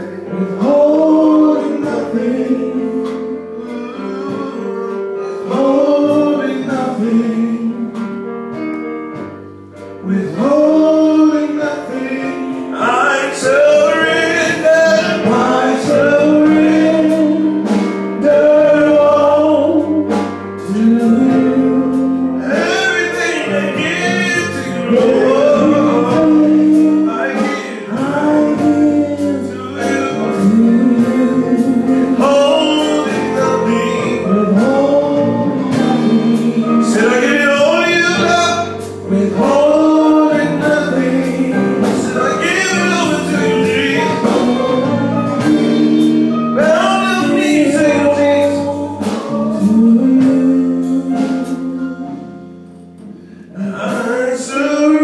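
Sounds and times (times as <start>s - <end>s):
man singing: 0.0s - 8.2s, 10.0s - 52.4s, 53.2s - 55.0s
keyboard chords: 0.0s - 55.0s.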